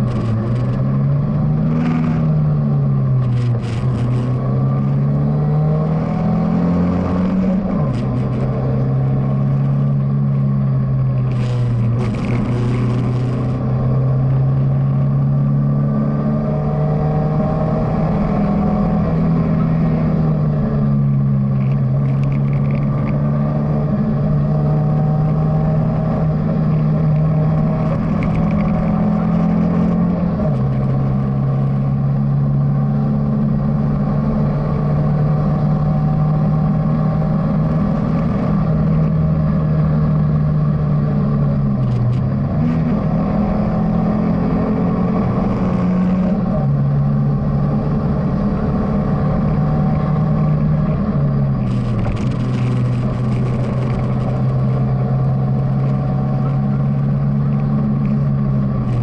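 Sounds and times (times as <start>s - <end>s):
car engine running hard: 0.0s - 59.0s
tyre and road noise: 0.0s - 59.0s.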